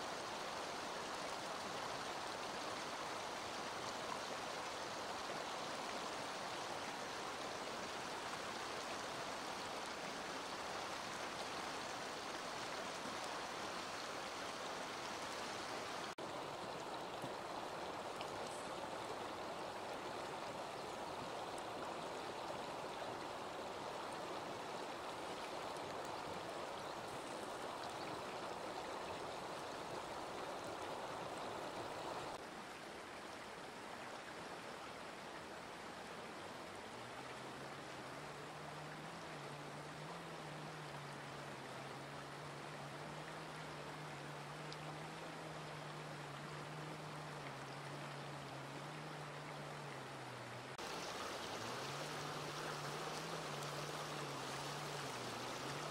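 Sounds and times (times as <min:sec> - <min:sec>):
river rushing over stones: 0:00.0 - 0:55.9.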